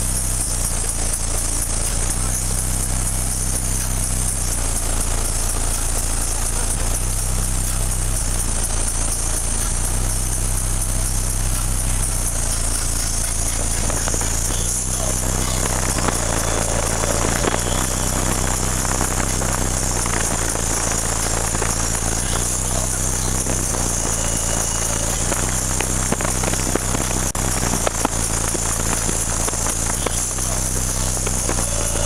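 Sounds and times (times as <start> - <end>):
deep subwoofer bass drone: 0.0 - 32.0.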